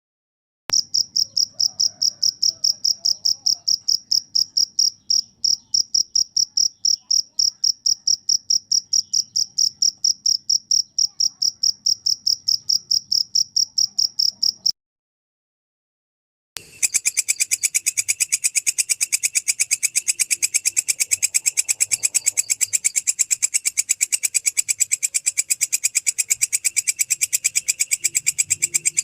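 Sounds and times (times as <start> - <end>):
cricket chirping: 0.7 - 14.7, 16.6 - 29.0.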